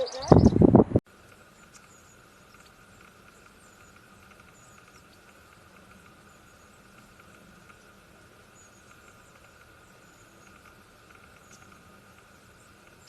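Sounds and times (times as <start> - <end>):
faint bird chirps: 0.0 - 0.6, 1.3 - 13.0
light ticking: 1.2 - 13.0.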